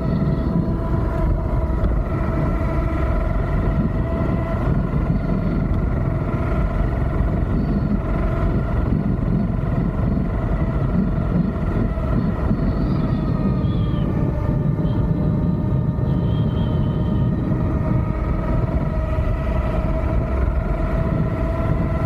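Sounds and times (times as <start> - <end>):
scooter drive whine: 0.0 - 22.0
wind buffeting microphone: 0.0 - 22.0.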